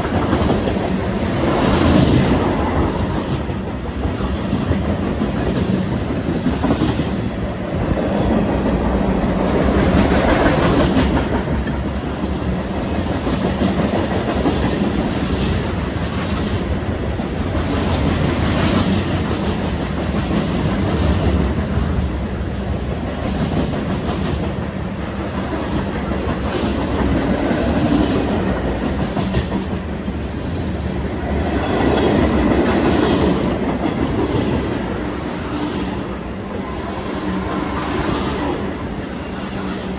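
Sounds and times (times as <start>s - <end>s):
freight train cars rumbling past: 0.0s - 39.9s.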